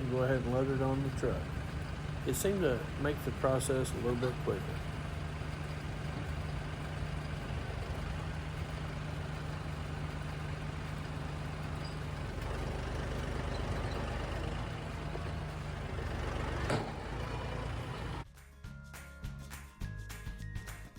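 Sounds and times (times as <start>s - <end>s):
tractor engine running: 0.0s - 18.3s.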